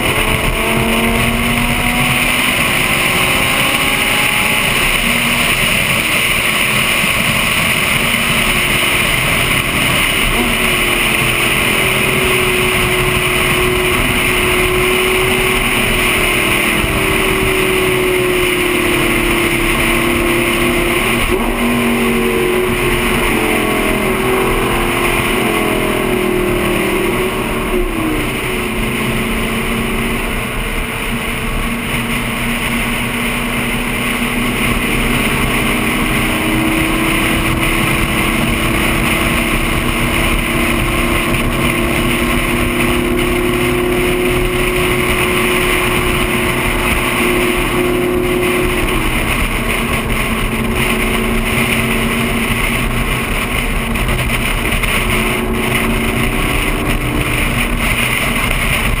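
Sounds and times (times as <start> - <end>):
sports car engine cruising: 0.0 - 59.0
wind and tyre noise: 0.0 - 59.0.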